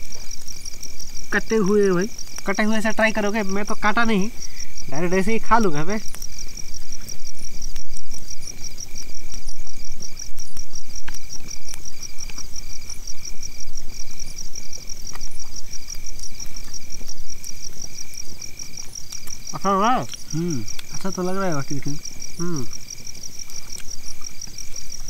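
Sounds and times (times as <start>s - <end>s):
high pulsing insect trill: 0.0s - 25.0s.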